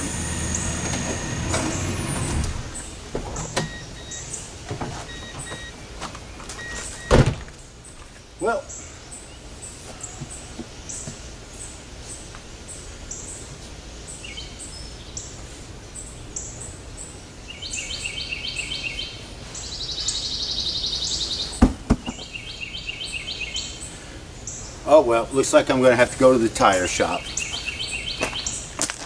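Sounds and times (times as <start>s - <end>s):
birds chirping: 0.0s - 13.4s, 14.0s - 29.0s.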